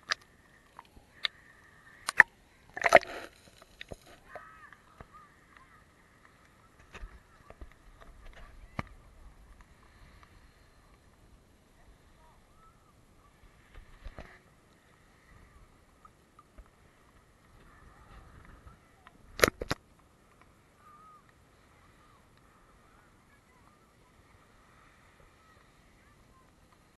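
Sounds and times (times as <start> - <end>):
water lapping and splashing: 0.0 - 26.9.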